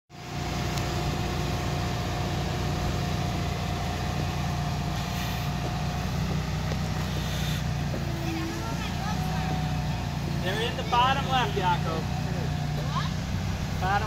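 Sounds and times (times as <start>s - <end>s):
truck engine idling: 0.1s - 14.0s.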